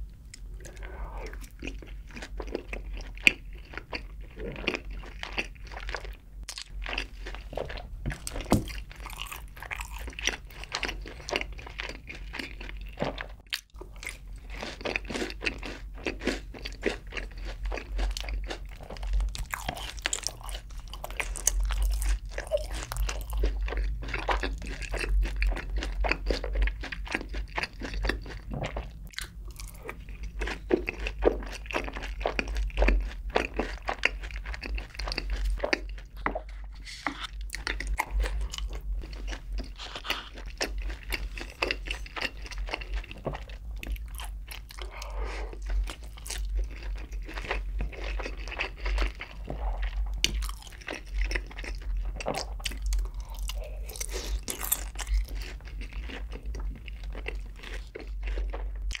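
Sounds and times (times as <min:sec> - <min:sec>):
chewing crunchy fried chicken: 0:00.3 - 0:59.0.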